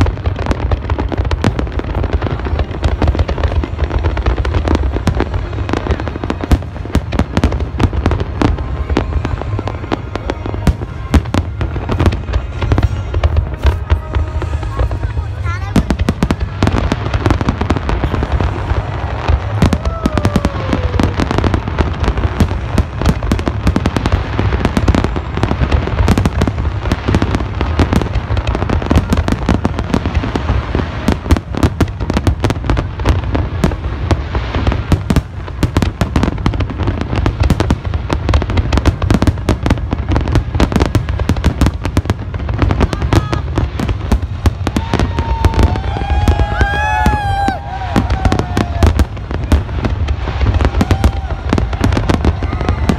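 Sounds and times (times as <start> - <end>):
deep rumble: 0.0 - 52.9
fireworks bangs and crackles: 0.0 - 52.9.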